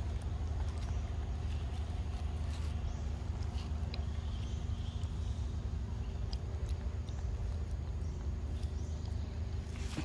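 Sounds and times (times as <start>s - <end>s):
monkey eating wet bites: 0.0s - 10.0s.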